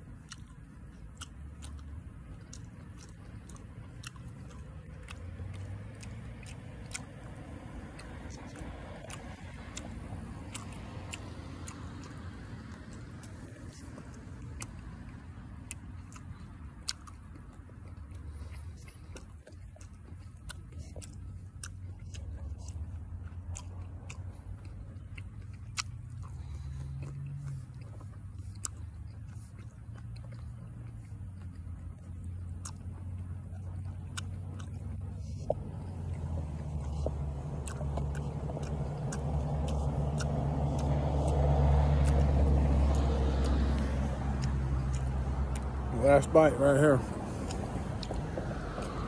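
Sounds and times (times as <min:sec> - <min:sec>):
crunchy chewing: 0:00.0 - 0:49.0.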